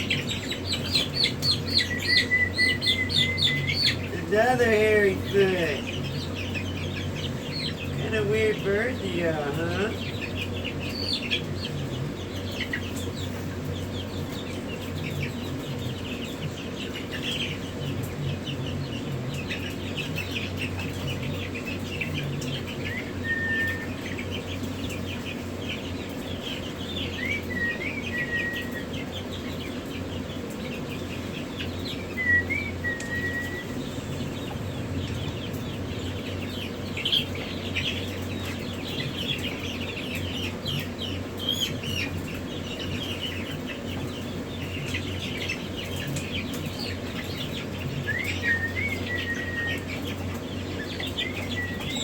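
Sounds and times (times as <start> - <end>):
baby chicks peeping: 0.0 - 52.0
steady low hum: 0.0 - 52.0.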